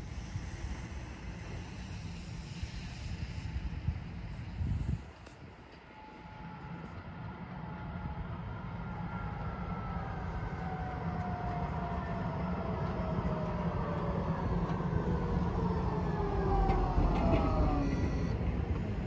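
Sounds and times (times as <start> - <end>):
tram electric drive whine: 0.0 - 19.0.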